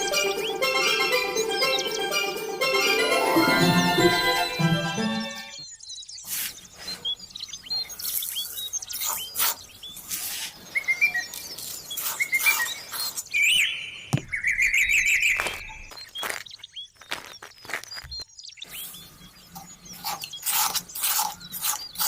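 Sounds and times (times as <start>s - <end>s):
birds chirping and calling: 0.0s - 3.0s, 3.8s - 22.0s.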